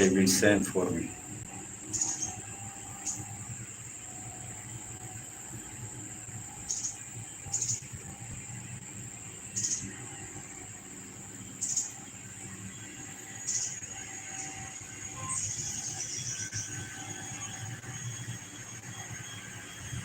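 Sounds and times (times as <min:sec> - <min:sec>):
faint low hum: 0:00.0 - 0:17.6
high-pitched whine: 0:00.0 - 0:20.0.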